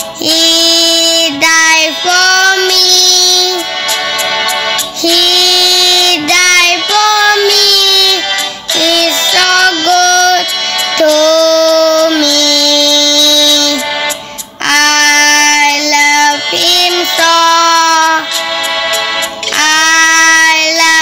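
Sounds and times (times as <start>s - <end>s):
child singing: 0.0s - 3.7s, 5.0s - 13.9s, 14.6s - 18.3s, 19.4s - 21.0s.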